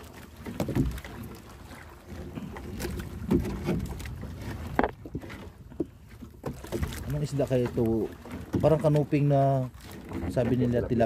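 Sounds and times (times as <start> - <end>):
water and wind against hull: 0.0 - 11.0.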